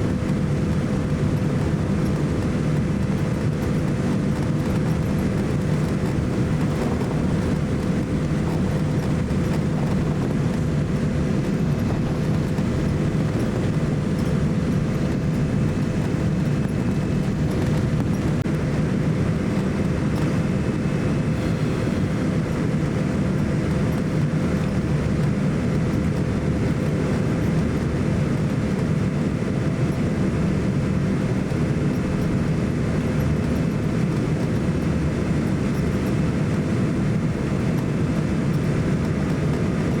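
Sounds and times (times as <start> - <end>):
airliner cabin rumble: 0.0 - 40.0.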